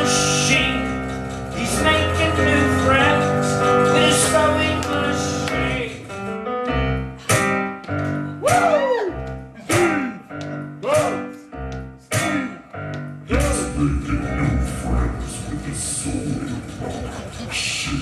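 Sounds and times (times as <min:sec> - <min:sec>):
person singing wordless melody: 0:00.0 - 0:18.0.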